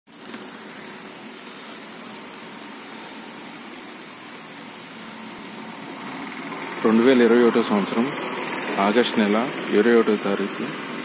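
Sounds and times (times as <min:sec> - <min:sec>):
steady rain falling: 0:00.1 - 0:11.0.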